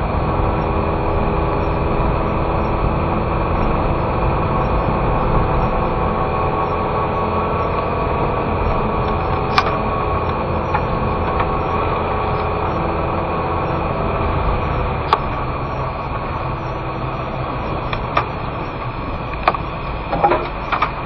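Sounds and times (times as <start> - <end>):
car engine and road hum: 0.0 - 21.0.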